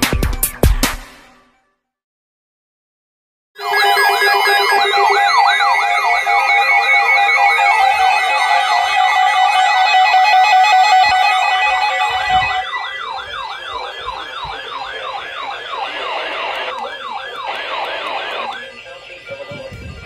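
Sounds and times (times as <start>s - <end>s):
harsh two-tone alert signal: 3.6s - 20.0s
siren-like warble: 3.6s - 20.0s.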